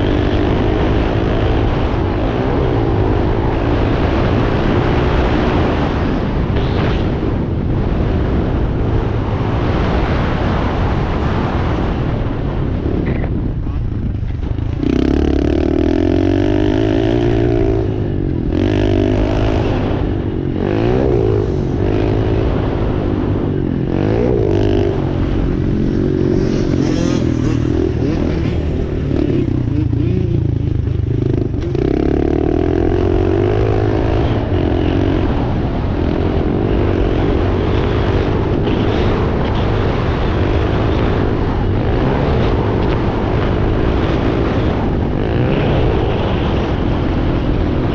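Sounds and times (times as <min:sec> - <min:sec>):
dirt bike engine revving: 0:00.0 - 0:11.9, 0:14.1 - 0:47.9.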